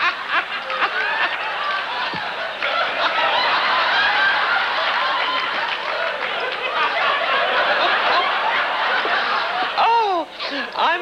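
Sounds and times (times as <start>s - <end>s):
studio audience laughing: 0.0s - 10.8s.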